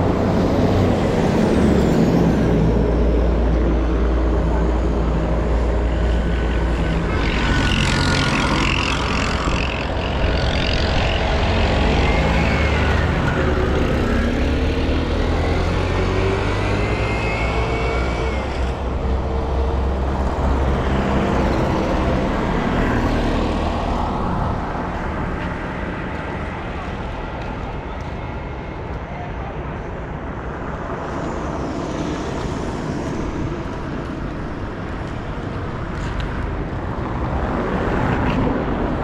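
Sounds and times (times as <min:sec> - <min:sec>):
vehicle engines rumbling: 0:00.0 - 0:39.0.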